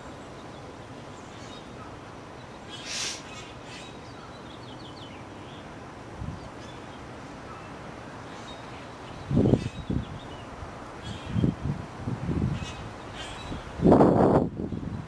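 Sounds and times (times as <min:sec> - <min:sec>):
wild birds calling: 0:00.0 - 0:11.7, 0:12.5 - 0:13.9
steady outdoor hiss: 0:00.0 - 0:15.0.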